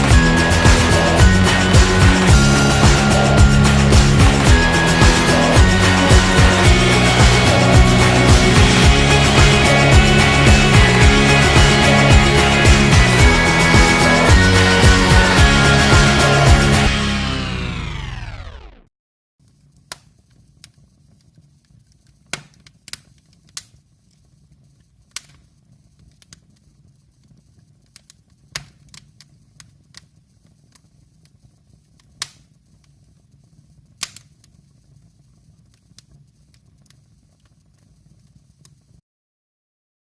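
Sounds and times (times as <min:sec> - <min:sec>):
wood fire crackling: 0:00.0 - 0:16.4, 0:19.4 - 0:39.0.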